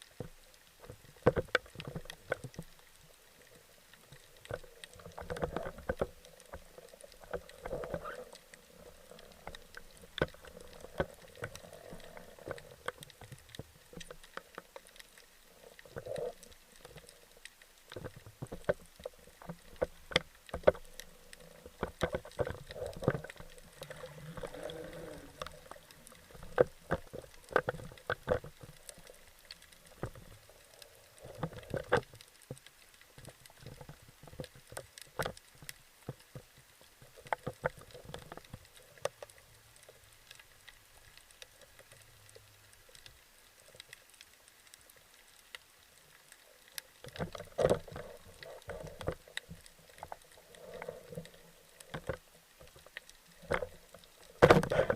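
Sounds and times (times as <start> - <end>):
muffled water movement: 0.0 - 54.9
underwater clicks and crackles: 0.0 - 54.9.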